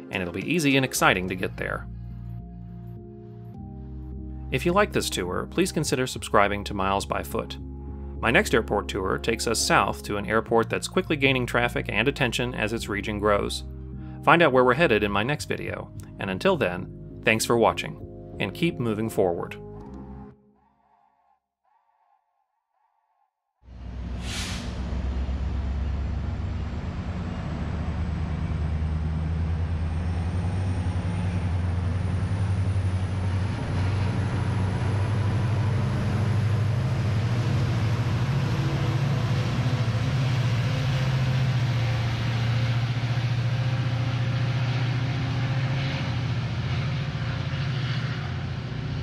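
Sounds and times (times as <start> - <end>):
diesel locomotive engine drone: 0.0 - 17.3, 23.7 - 49.0.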